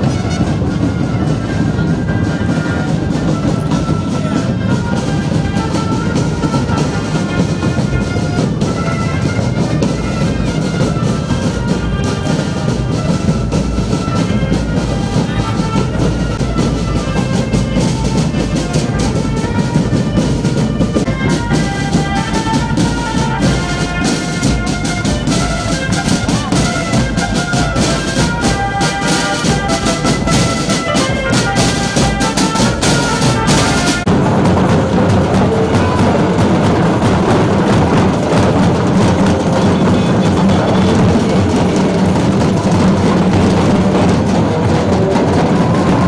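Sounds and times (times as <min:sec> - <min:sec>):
brass melody: 0:00.0 - 0:46.0
snare and bass drumming: 0:00.0 - 0:46.0.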